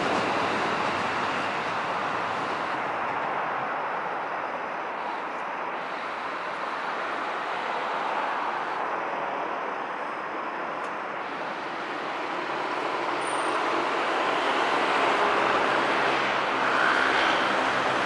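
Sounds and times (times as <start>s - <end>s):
electric train running on track: 0.0s - 18.0s
road traffic noise: 0.0s - 18.0s.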